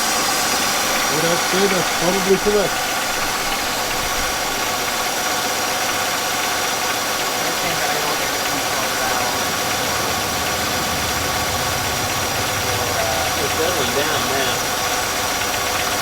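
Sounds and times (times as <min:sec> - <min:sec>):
car engine idling unevenly: 0:00.0 - 0:16.0
sucking hiss of air: 0:00.0 - 0:16.0.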